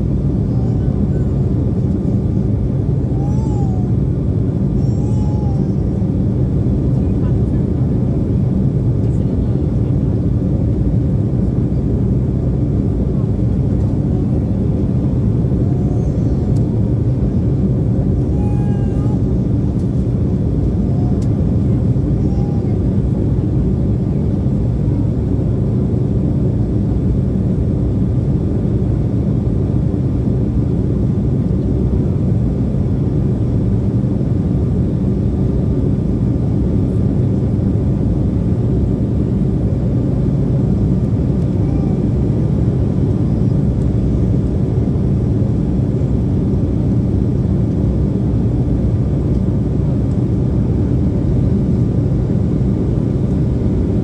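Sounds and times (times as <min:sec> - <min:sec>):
low rumble of engine and airflow: 0:00.0 - 0:54.0.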